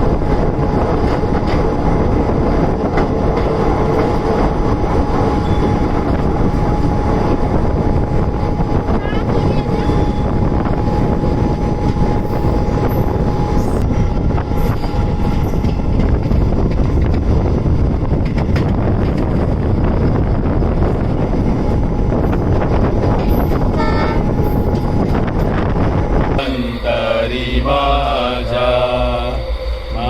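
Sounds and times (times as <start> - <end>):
train rumbling and rattling on rails: 0.0 - 30.0.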